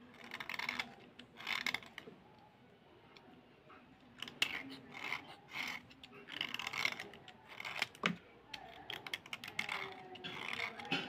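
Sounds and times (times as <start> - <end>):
knife scraping slate pencil: 0.0 - 2.1, 4.2 - 11.0.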